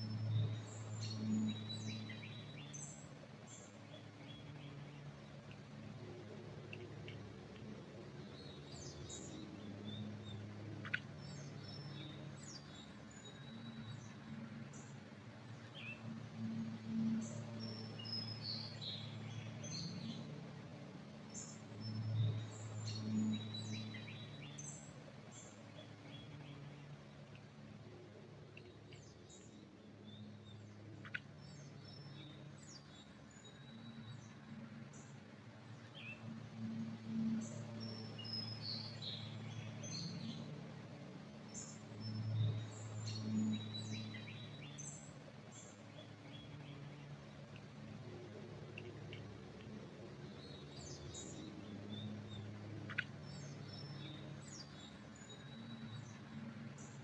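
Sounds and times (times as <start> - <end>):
low steady hum: 0.0 - 57.0
songbirds chirping: 0.0 - 57.0.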